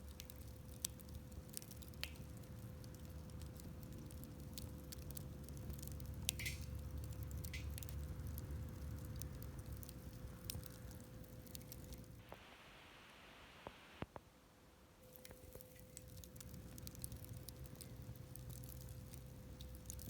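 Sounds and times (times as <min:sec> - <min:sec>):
campfire crackling and popping: 0:00.0 - 0:12.6, 0:15.0 - 0:20.0
low steady rumble: 0:00.0 - 0:20.0.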